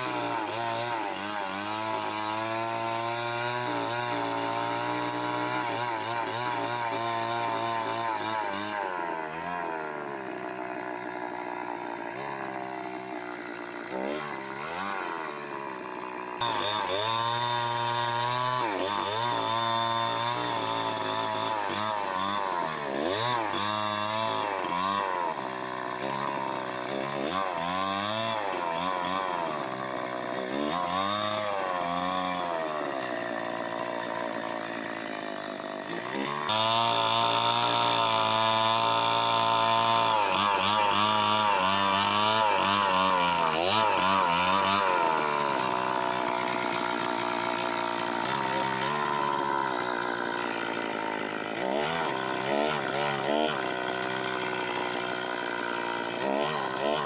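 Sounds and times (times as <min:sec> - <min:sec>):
chainsaw revving: 0:00.0 - 0:57.0.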